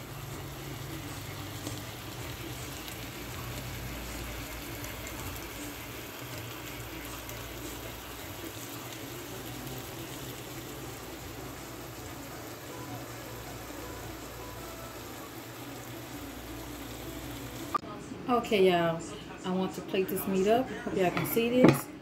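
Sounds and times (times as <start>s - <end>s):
chicken sizzling in a pan: 0.0s - 17.8s.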